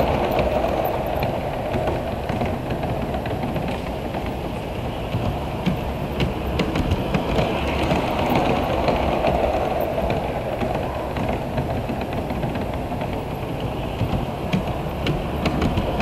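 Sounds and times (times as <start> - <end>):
model train running hum: 0.0 - 16.0
wheels clicking on rails: 0.0 - 16.0.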